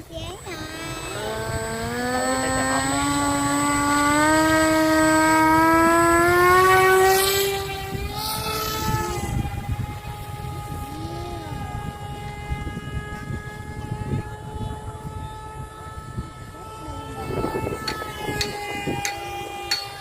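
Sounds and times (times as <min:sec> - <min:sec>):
model airplane motor whining: 0:00.0 - 0:20.0.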